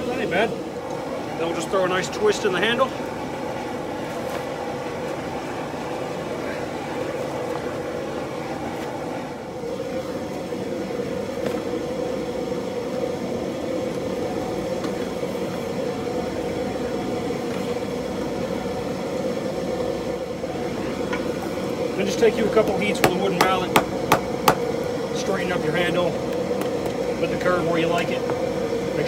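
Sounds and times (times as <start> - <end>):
forge rushing noise: 0.0 - 29.0.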